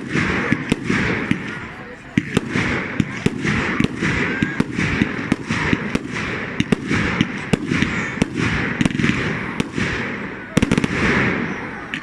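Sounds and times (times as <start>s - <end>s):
continuous hiss: 0.0s - 12.0s
fireworks banging: 0.0s - 12.0s.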